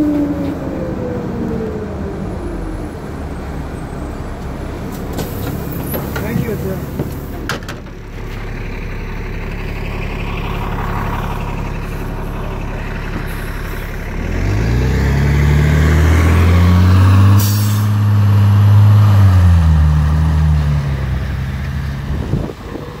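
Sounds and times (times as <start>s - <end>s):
diesel bus engine: 0.0s - 23.0s.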